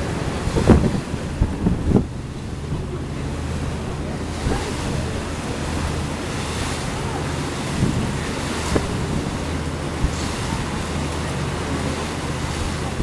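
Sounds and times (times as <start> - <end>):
boat engine droning: 0.0 - 13.0
water rushing along hull: 0.0 - 13.0
wind buffeting microphone: 0.0 - 13.0.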